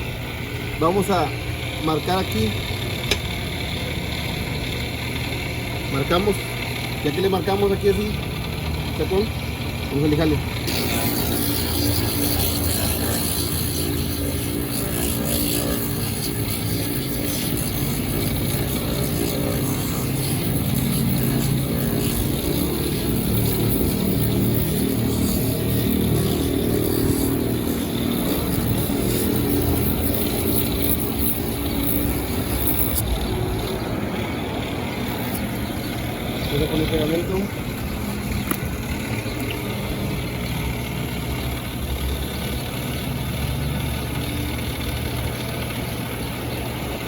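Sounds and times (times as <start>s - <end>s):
electric sander grinding rubber: 0.0s - 3.3s, 3.9s - 47.0s.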